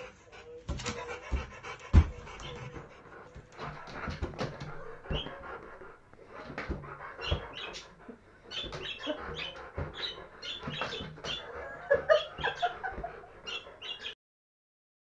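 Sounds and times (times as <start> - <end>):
dog panting: 0.0 - 14.2.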